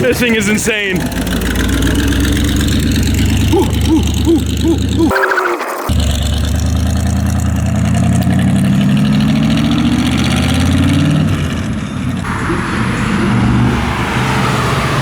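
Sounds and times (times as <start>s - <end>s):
car engine accelerating and shifting: 0.9s - 5.1s, 6.0s - 15.0s.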